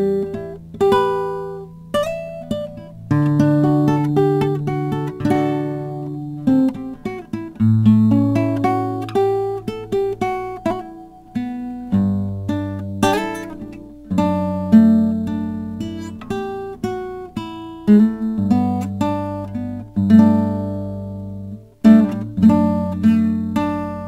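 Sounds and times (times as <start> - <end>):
slow acoustic guitar piece: 0.0 - 24.0.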